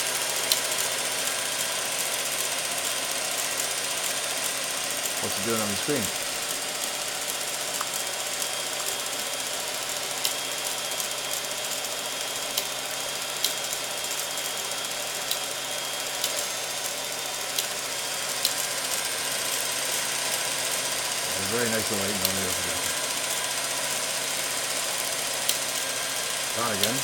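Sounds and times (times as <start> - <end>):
film projector whirring: 0.0 - 27.0.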